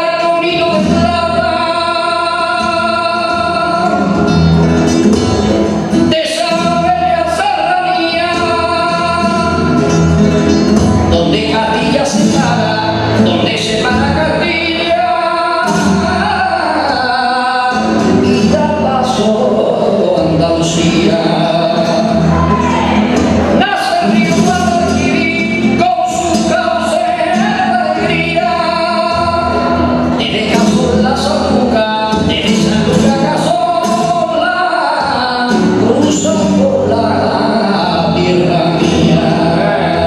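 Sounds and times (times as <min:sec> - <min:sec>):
flamenco guitar: 0:00.0 - 0:40.0
man singing flamenco: 0:00.0 - 0:40.0.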